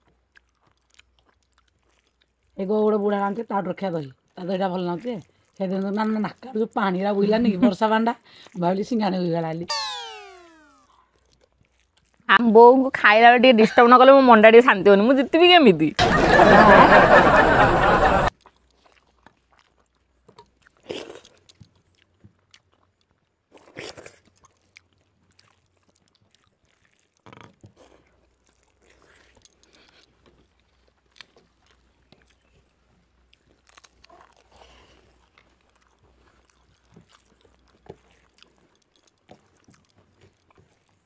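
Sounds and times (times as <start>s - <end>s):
chewing and mouth sounds: 0.0s - 14.0s, 18.2s - 41.0s.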